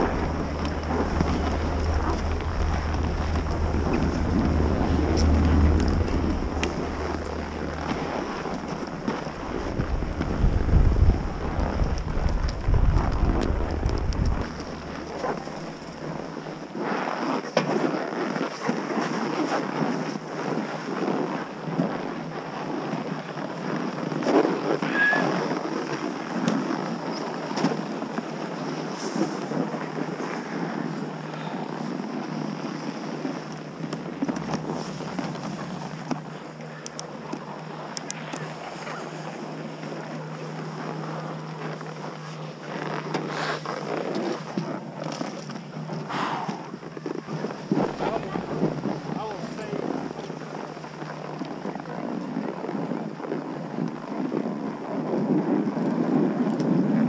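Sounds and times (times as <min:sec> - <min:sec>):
steady low hum: 0:00.0 - 0:17.2, 0:25.4 - 0:57.0
wind buffeting microphone: 0:00.0 - 0:17.8, 0:18.6 - 0:57.0
snowboard scraping over snow: 0:00.0 - 0:57.0.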